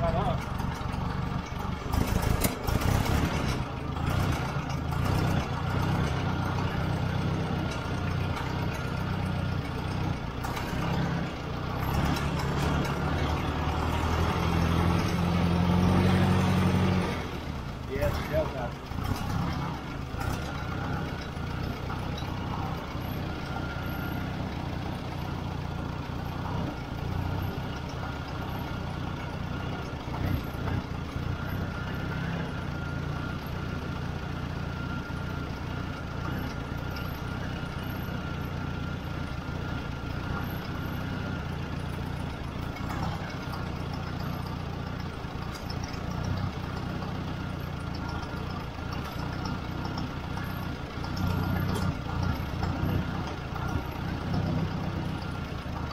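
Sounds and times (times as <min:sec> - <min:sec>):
tractor engine idling: 0:00.0 - 0:55.9.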